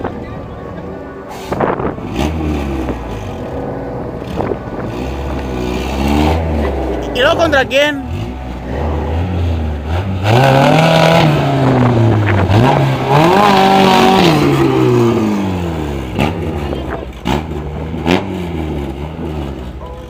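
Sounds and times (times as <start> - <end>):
car engine revving: 0.7 - 20.0.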